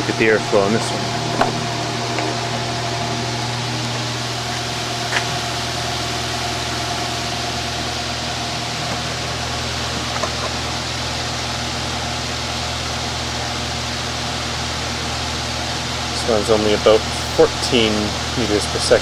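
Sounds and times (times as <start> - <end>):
electric motor hum and whine: 0.0 - 19.0
fan air rushing: 0.0 - 19.0.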